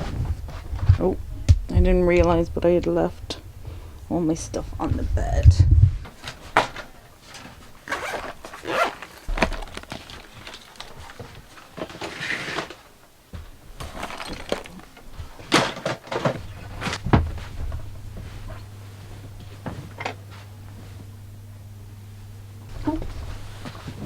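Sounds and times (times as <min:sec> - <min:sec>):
low steady hum: 0:00.0 - 0:12.0, 0:12.6 - 0:24.0.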